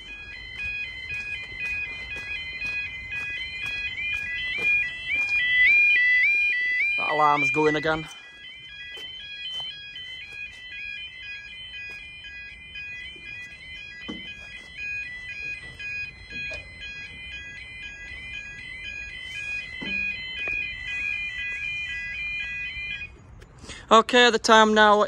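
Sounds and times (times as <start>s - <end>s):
level crossing alarm warbling: 0.0s - 23.2s.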